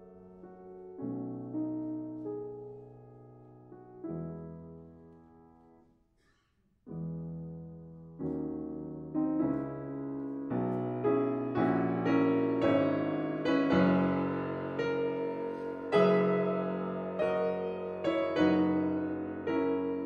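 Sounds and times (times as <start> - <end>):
piano chords: 0.0 - 5.8, 6.9 - 20.0.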